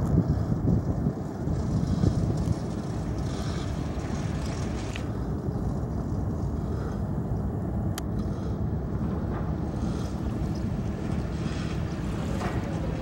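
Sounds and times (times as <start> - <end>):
ship engine rumble: 0.0 - 13.0
wind on microphone: 0.0 - 13.0.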